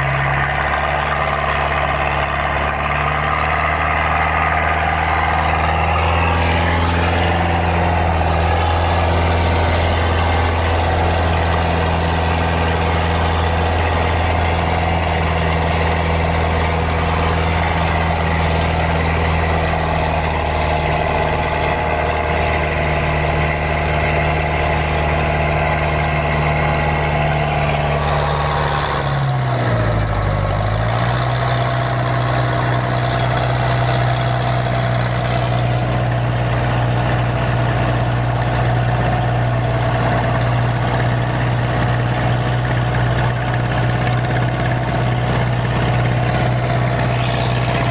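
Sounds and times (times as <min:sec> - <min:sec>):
boat diesel engine running: 0:00.0 - 0:47.9.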